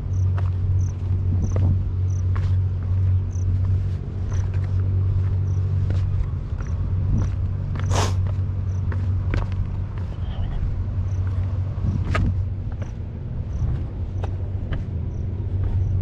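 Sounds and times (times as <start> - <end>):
low rumbling motor drone: 0.0 - 16.0.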